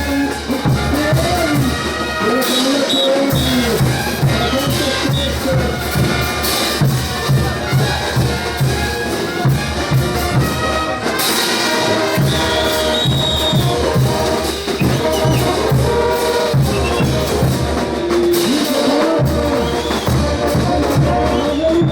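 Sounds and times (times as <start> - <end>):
low drum beat: 0.0 - 10.7, 12.0 - 21.9
brass melody: 0.0 - 21.9.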